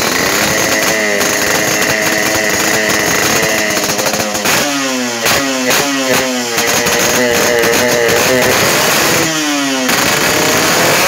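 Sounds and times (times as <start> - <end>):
two-stroke motorcycle engine revving: 0.0 - 11.0.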